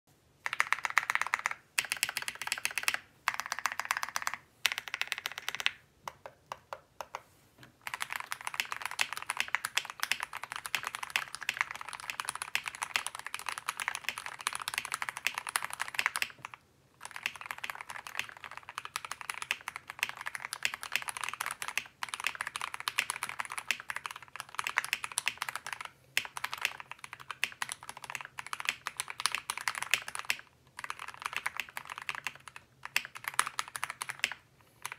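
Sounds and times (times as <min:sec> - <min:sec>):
typing on mechanical keyboard: 0:00.4 - 0:07.2, 0:07.8 - 0:34.9.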